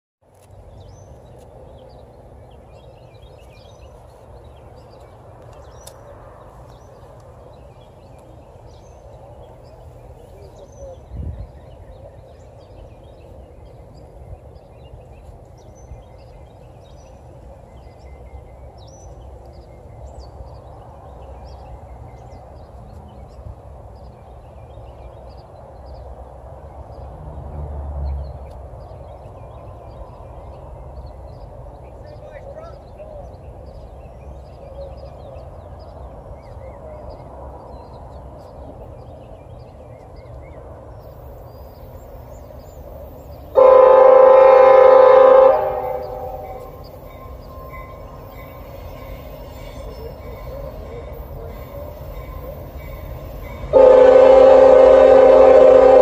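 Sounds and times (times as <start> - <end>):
songbirds chirping: 0.2 - 56.0.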